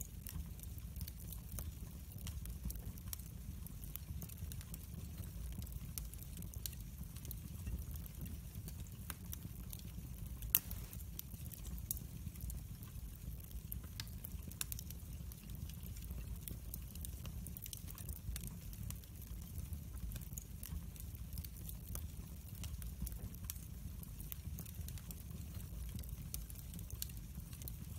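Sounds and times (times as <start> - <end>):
fire crackling and popping: 0.0 - 27.9
low fire rumble: 0.0 - 27.9.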